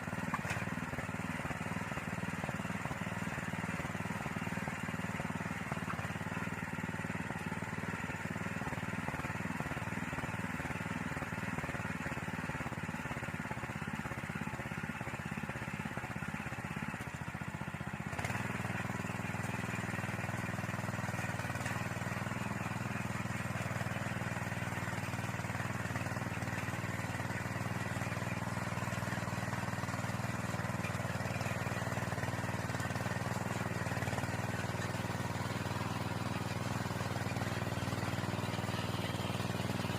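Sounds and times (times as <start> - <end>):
soil tiller engine running: 0.0 - 39.9.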